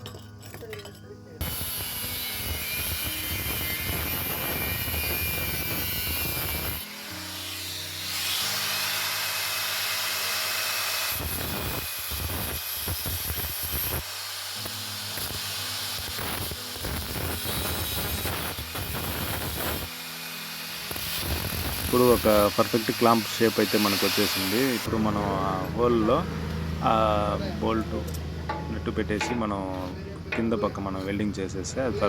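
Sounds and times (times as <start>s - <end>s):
power tool grinding steel: 0.0s - 26.3s.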